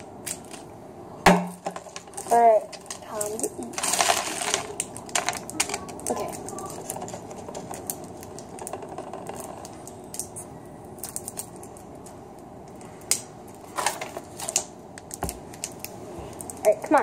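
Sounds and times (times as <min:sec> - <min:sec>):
plastic wrappers crinkling: 0:00.0 - 0:00.7, 0:01.6 - 0:17.0.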